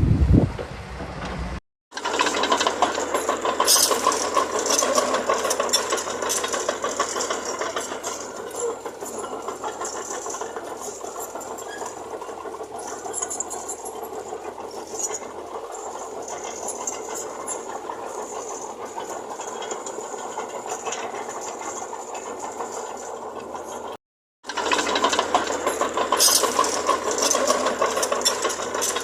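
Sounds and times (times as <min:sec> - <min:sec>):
diesel engine with mechanical rattle: 0:00.0 - 0:29.0.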